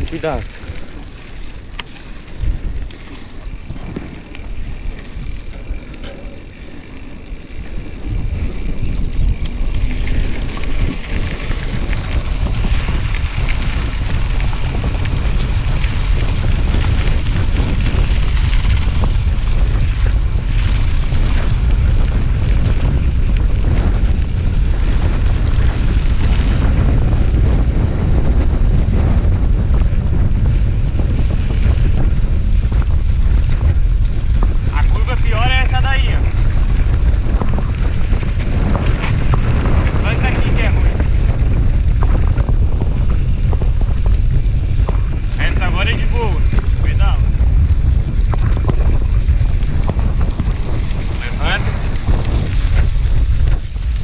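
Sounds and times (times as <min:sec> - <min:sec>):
low bike rumble: 0:00.0 - 0:54.0
wind buffeting microphone: 0:00.0 - 0:54.0.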